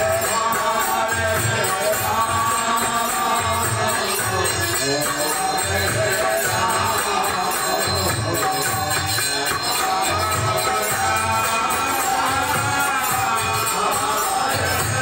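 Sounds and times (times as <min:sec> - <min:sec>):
drum beating steady rhythm: 0:00.0 - 0:15.0
harmonium chords: 0:00.0 - 0:15.0
jingling hand percussion: 0:00.0 - 0:15.0.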